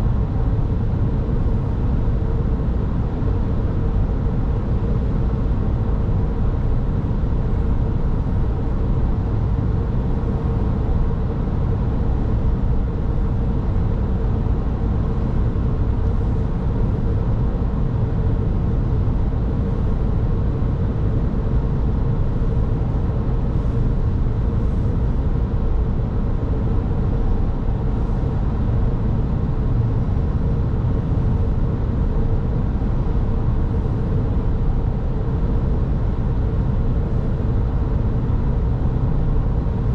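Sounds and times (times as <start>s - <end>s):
car engine and tyre rumble: 0.0s - 39.9s
faint steady hum: 0.0s - 39.9s.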